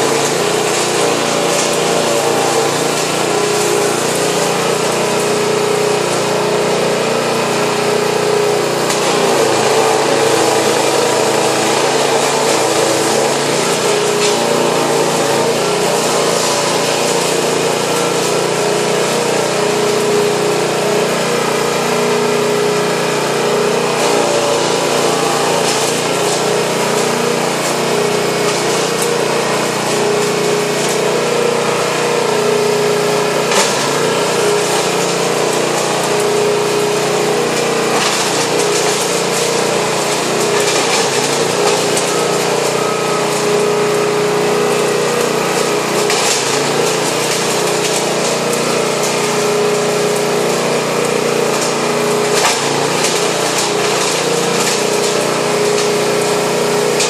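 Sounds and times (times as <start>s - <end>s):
petrol engine running: 0.0s - 57.0s
branches being chipped: 7.4s - 21.6s, 23.4s - 57.0s.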